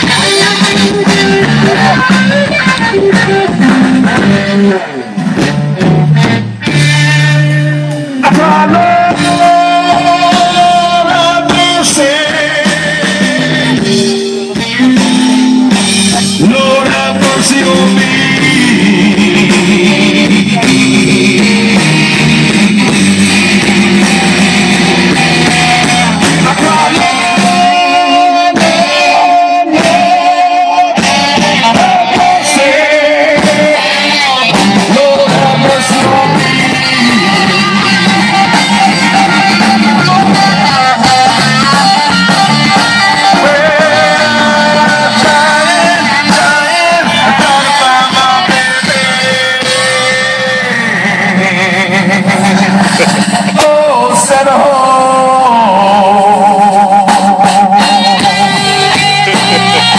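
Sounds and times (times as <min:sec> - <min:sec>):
person singing: 0:00.0 - 0:05.2, 0:06.5 - 0:59.9
live blues band: 0:00.0 - 0:59.9.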